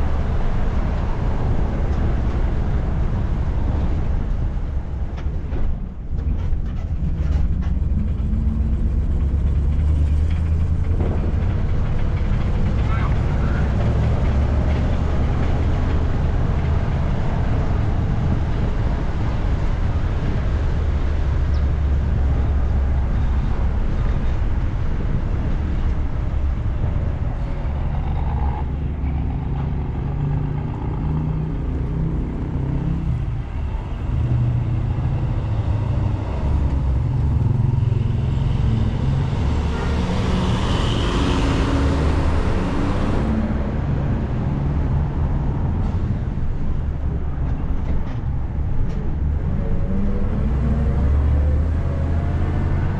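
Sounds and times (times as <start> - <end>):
bus engine running: 0.0 - 52.9
road noise: 0.0 - 52.9.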